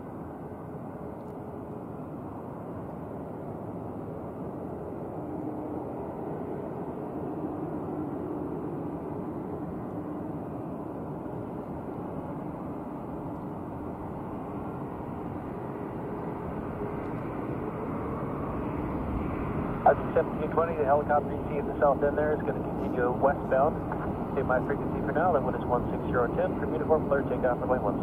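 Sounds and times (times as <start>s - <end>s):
jet engines idling: 0.2s - 28.0s.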